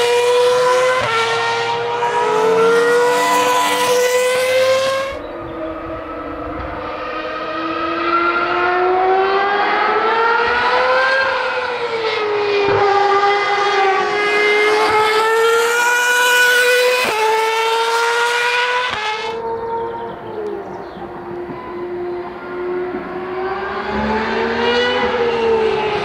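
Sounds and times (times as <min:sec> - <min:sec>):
racing car engine at high revs: 0:00.0 - 0:26.0.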